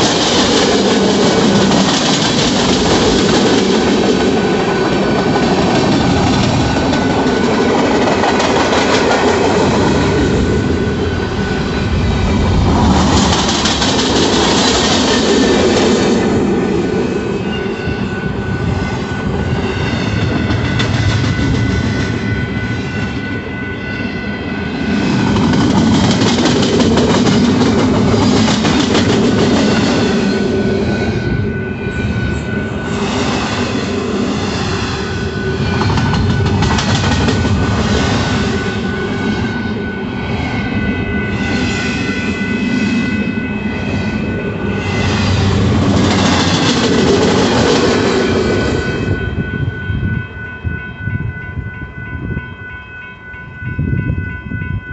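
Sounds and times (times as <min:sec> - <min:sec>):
freight train wheels clacking: 0:00.0 - 0:23.6, 0:24.4 - 0:49.5.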